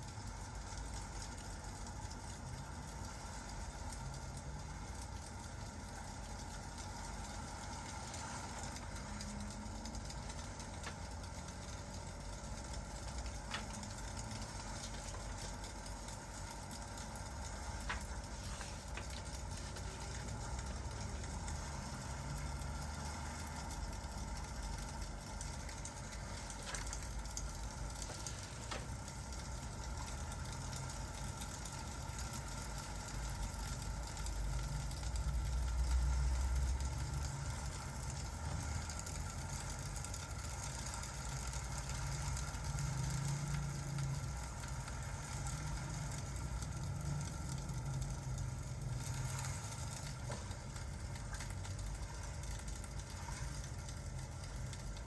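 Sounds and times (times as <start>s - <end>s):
fire crackling: 0.0s - 55.0s
rain hiss: 0.0s - 55.0s.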